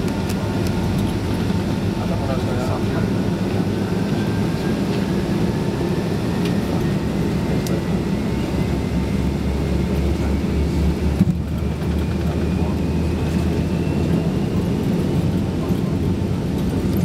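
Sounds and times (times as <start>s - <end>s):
faint engine whine: 0.0s - 17.0s
jet engines roaring in cabin: 0.0s - 17.0s.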